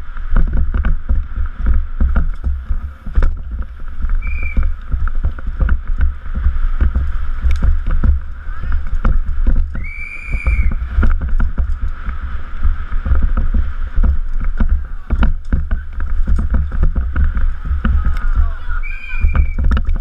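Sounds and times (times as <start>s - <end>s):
bike rattling on cobblestones: 0.0s - 20.0s
wind buffeting microphone: 0.0s - 20.0s.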